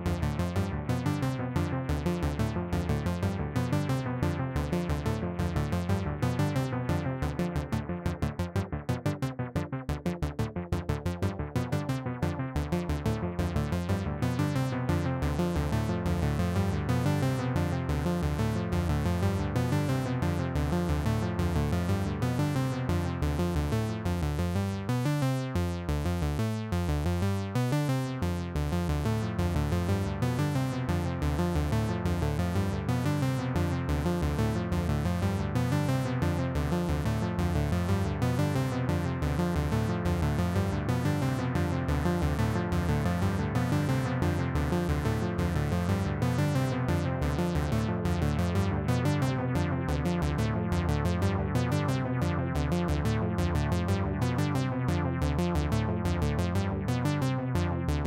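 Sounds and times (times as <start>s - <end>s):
synthesizer sequenced low notes: 0.0s - 58.0s.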